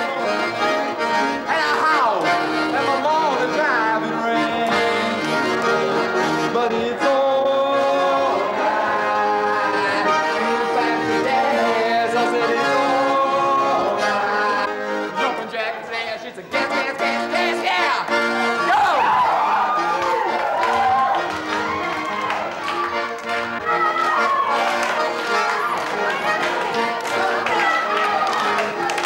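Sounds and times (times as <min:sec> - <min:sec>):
piano accordion playing: 0:00.0 - 0:29.0.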